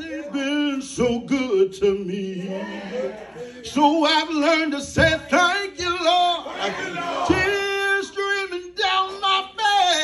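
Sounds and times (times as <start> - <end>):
man singing into microphone: 0.0 - 6.4, 7.2 - 10.0.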